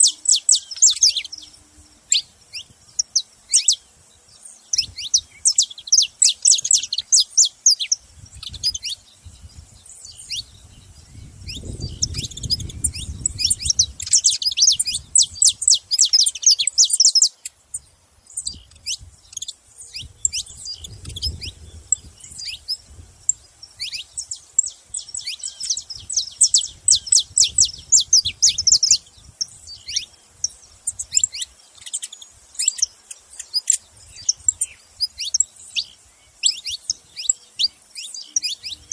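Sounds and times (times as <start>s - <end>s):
finch chirping and singing: 0.0s - 3.8s, 4.4s - 38.9s.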